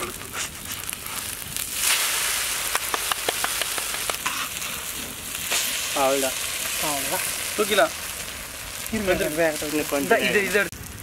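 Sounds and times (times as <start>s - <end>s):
omelettes sizzling on griddle: 0.0s - 11.0s.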